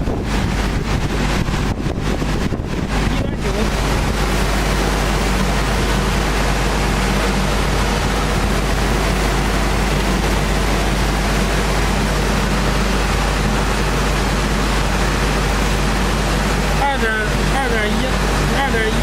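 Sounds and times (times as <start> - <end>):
sanding machinery running: 0.0 - 19.0.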